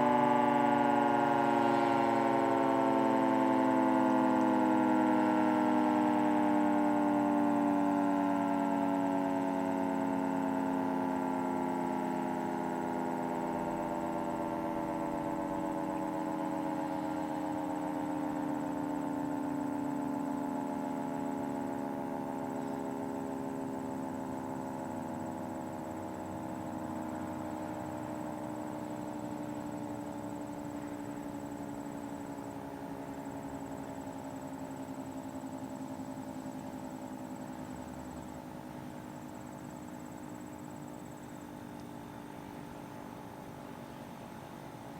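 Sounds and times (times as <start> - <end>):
dual-tone warning siren winding down: 0.0 - 44.9.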